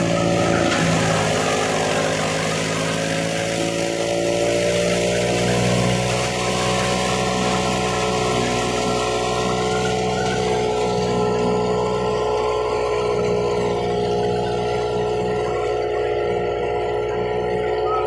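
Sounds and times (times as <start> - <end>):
thresher droning: 0.0 - 18.0
tractor engine: 0.0 - 18.0.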